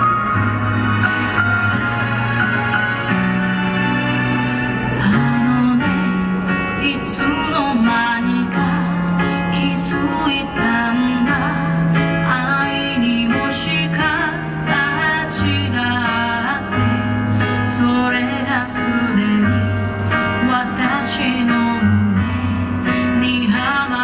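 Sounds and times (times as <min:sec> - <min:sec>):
song with vocals and instruments: 0:00.0 - 0:24.0.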